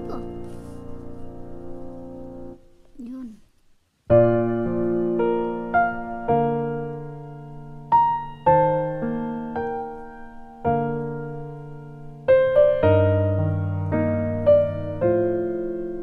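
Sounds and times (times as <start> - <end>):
slow piano music: 0.0 - 3.2, 4.1 - 16.0.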